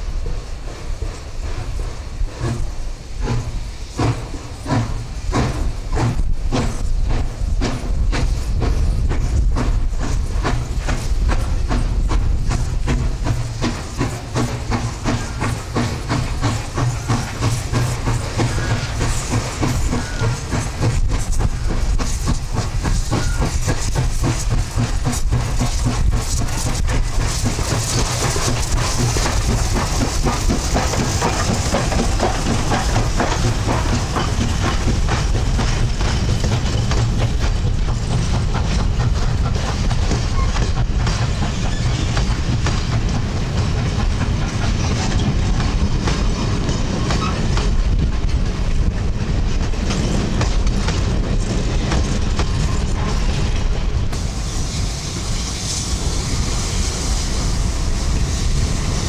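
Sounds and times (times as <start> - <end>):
steam hissing: 0.0 - 59.0
steam locomotive exhaust beats: 0.0 - 59.0
train wheels clicking on rail joints: 0.0 - 59.0.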